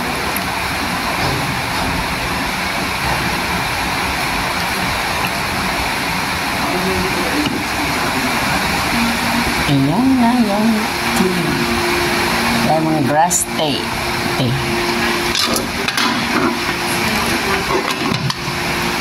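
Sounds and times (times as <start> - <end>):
loud steady rushing noise: 0.0 - 19.0.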